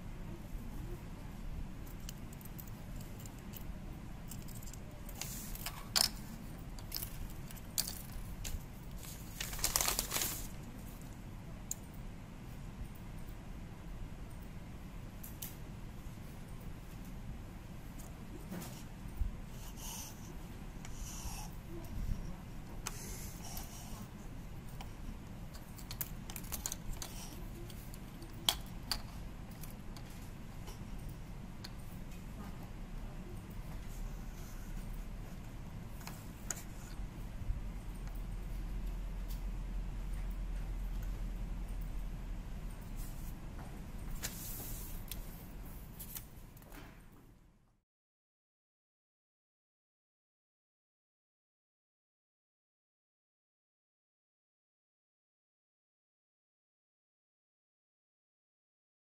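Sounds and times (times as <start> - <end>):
steady low hum: 0.0 - 47.8.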